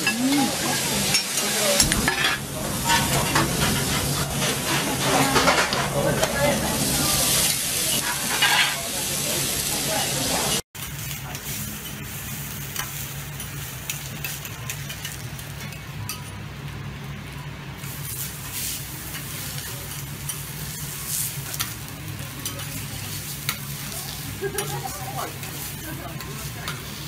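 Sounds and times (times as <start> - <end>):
steaks sizzling on griddle: 0.0 - 15.7, 17.8 - 27.0.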